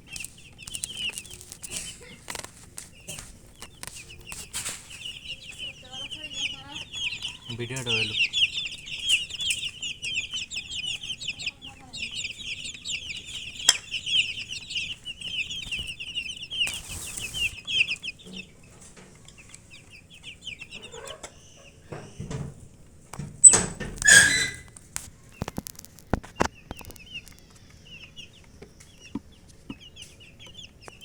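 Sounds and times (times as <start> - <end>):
baby chicks peeping: 0.0 - 31.0.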